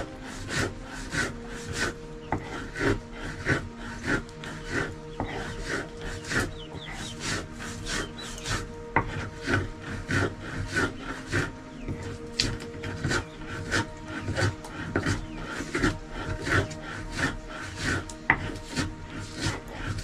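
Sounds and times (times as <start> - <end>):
rhythmic rasping strokes: 0.0 - 20.0.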